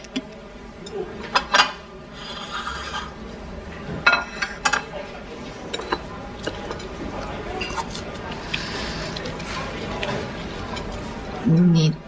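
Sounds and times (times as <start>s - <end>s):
tableware clinking and scraping: 0.8s - 11.7s.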